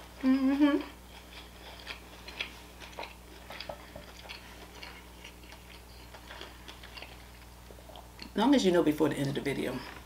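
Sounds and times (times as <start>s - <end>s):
closed-mouth chewing: 0.2s - 8.4s.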